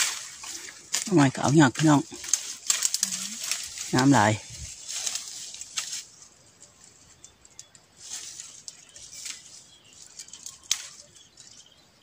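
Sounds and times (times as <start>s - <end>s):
dry bamboo leaves rustling: 0.0s - 12.0s.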